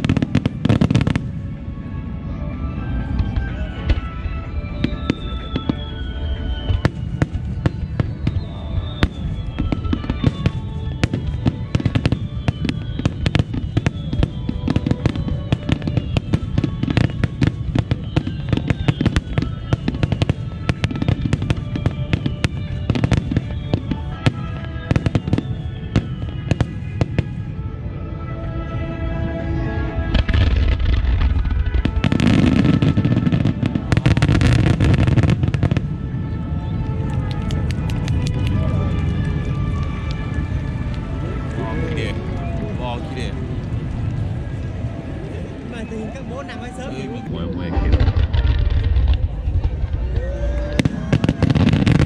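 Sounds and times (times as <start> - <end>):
fireworks bursts and crackles: 0.0 - 28.3, 29.3 - 52.0
music playing: 0.0 - 52.0.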